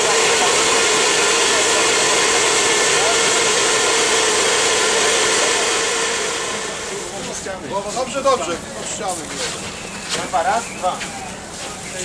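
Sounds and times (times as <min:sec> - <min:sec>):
machine whirring and humming: 0:00.0 - 0:11.8.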